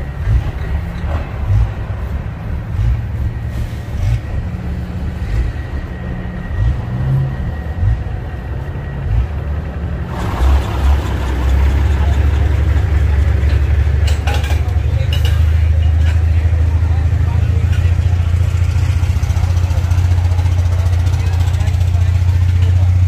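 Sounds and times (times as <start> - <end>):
idling diesel truck engines: 0.0 - 23.0.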